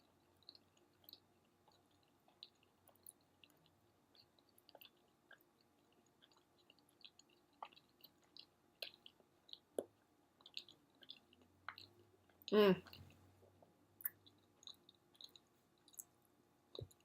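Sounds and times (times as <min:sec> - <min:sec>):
chewing with wet mouth clicks: 0:00.0 - 0:17.0.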